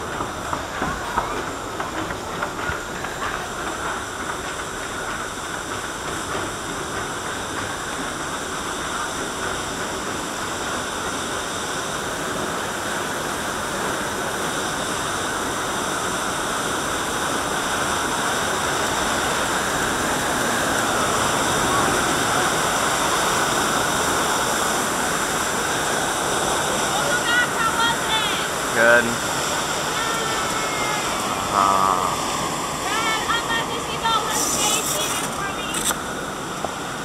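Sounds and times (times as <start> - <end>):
churning water rushing: 0.0 - 37.0.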